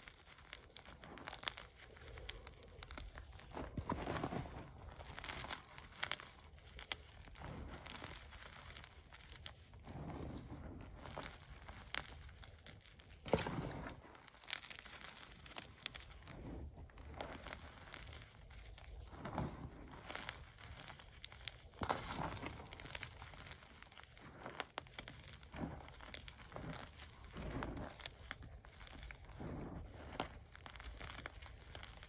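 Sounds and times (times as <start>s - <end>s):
hands crunching crumbled chalk: 0.0s - 32.0s.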